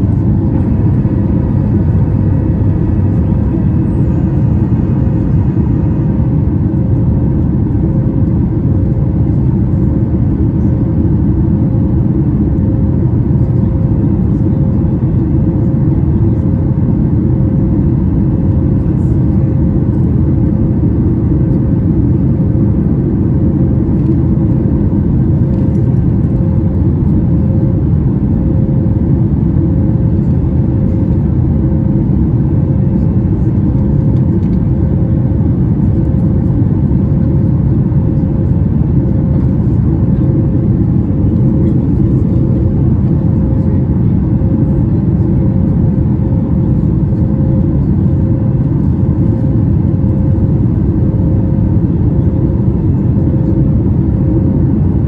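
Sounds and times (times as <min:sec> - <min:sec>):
airliner cabin deep rumble: 0:00.0 - 0:55.0.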